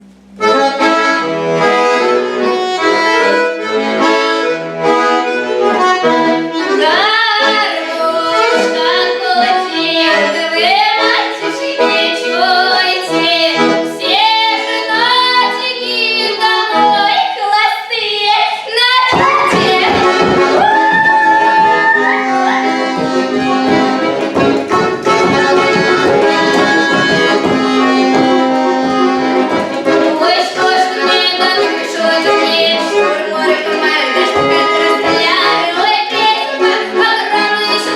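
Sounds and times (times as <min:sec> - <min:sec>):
folk accordion music: 0:00.0 - 0:37.9.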